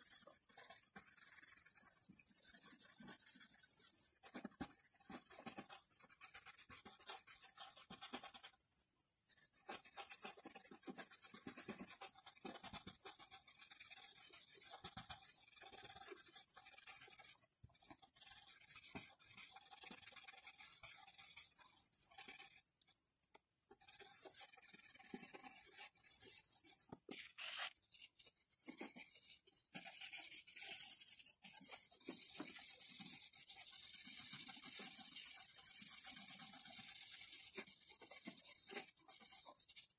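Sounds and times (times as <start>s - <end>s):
pencil scratching on paper: 0.0s - 22.6s, 23.7s - 39.9s.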